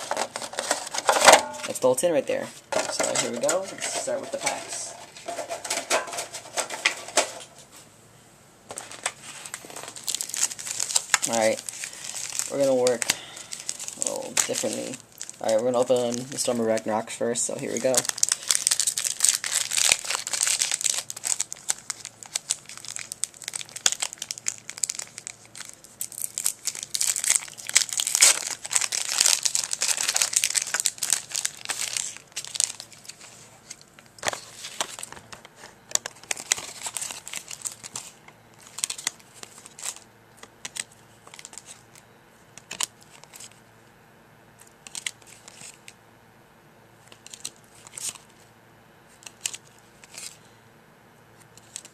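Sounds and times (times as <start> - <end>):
foil wrapper tearing and crinkling: 0.0 - 1.9, 2.7 - 7.5, 8.7 - 35.2, 35.9 - 42.0, 42.6 - 43.6, 44.6 - 46.0, 47.1 - 48.4, 49.1 - 50.4, 51.6 - 51.9.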